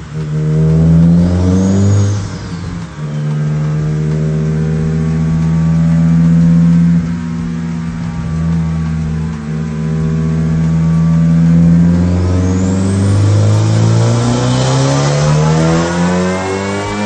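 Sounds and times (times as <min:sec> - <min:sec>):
car engine pulling under load: 0:00.0 - 0:17.0
turbo whistle: 0:00.0 - 0:17.0.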